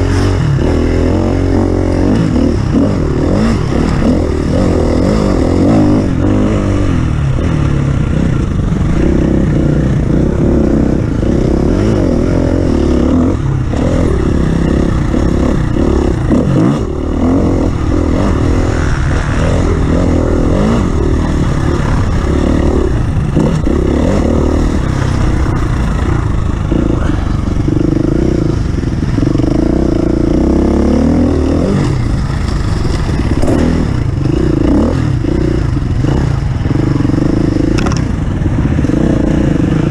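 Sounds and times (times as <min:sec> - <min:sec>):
off-road vehicle engine revving: 0:00.0 - 0:39.9
vehicle rattling: 0:00.0 - 0:39.9.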